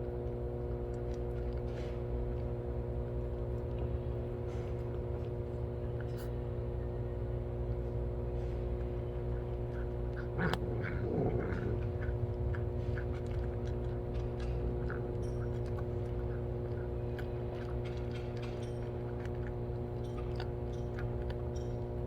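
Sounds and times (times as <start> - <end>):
cats eating with crunches: 0.0 - 22.0
steady hum: 0.0 - 22.0.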